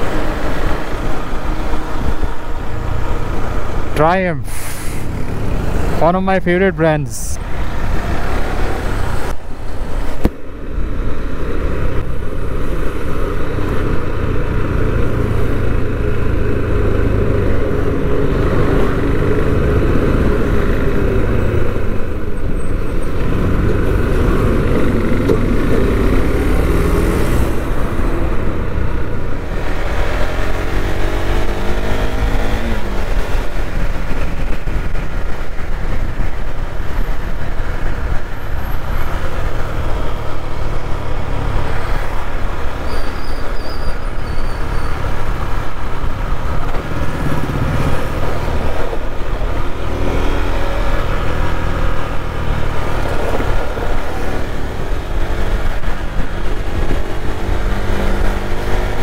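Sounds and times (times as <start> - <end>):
road noise: 0.0 - 59.0.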